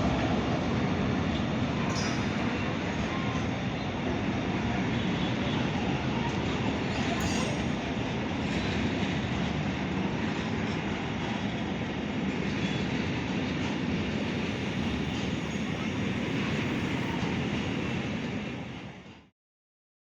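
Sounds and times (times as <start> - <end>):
freight train passing: 0.0 - 19.3.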